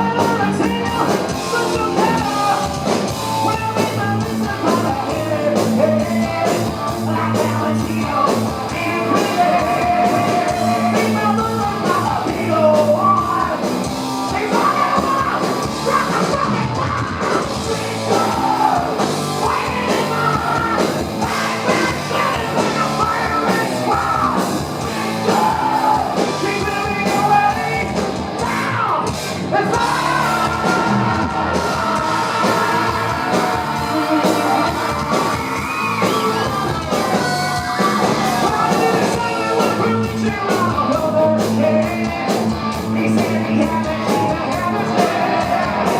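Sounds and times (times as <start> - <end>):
heavy metal band playing: 0.0 - 45.9
man singing and yelling: 0.0 - 45.9.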